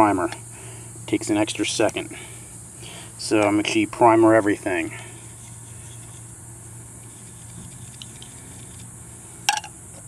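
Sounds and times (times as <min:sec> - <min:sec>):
low hum and hiss: 0:00.0 - 0:10.0.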